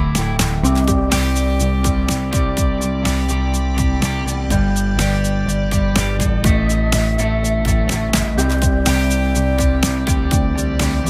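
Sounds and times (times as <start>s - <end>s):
music with sustained tones and beat: 0.0s - 11.0s.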